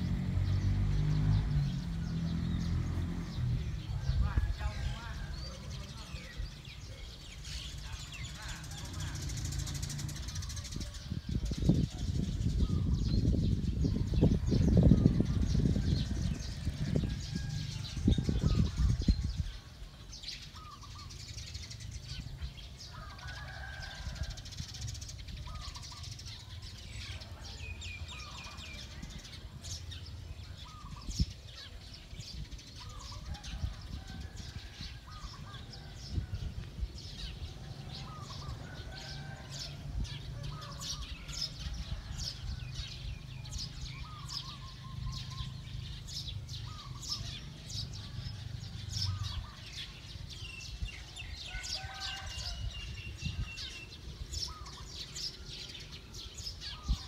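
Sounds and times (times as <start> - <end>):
low rumble on microphone: 0.0 - 23.2, 23.8 - 57.0
birds chirping: 0.0 - 57.0.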